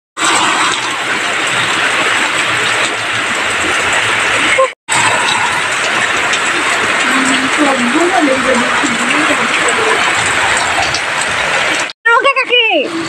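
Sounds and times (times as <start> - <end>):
heavy rain: 0.2 - 13.0.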